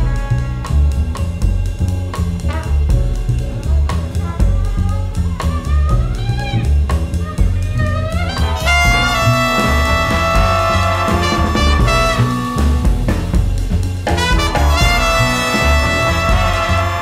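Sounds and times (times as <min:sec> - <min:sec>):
trumpet melody: 0:00.0 - 0:01.8, 0:02.4 - 0:17.0
drum and bass beat: 0:00.0 - 0:17.0.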